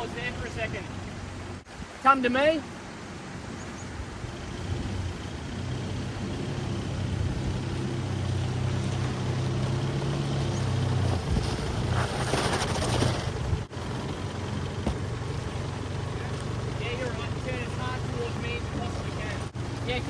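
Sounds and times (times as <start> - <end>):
vehicle engine at low revs: 0.0 - 20.0.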